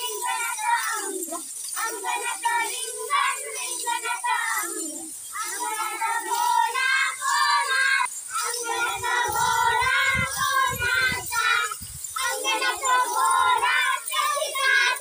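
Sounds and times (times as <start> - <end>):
children singing together: 0.0 - 15.0.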